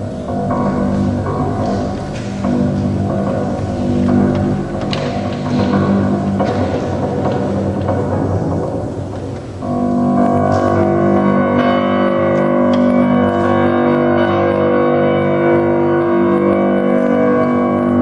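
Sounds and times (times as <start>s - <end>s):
grand piano playing: 0.0s - 18.0s.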